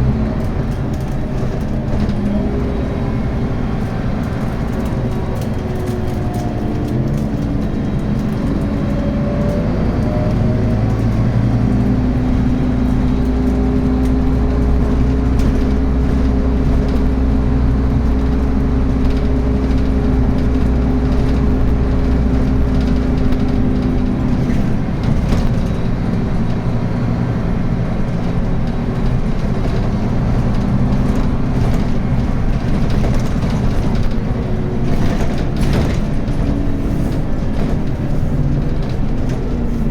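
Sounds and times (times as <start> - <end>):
bus engine drone: 0.0 - 39.9
road and body noise: 0.0 - 39.9.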